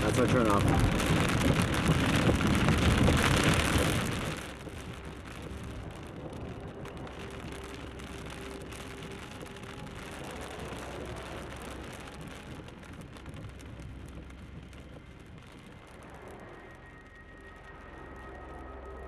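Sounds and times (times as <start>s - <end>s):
car road noise: 0.0s - 19.0s
faint steady tones: 0.0s - 19.0s
rain-like hiss: 0.0s - 19.0s.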